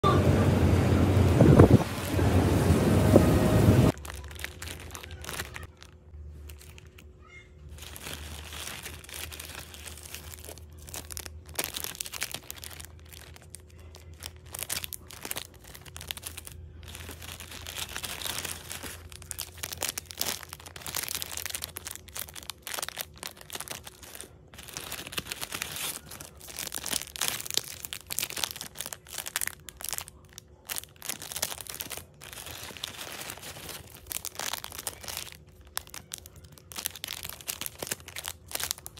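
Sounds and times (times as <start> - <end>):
faint low hum: 0.0 - 38.9
plastic bag crinkling: 3.9 - 38.9.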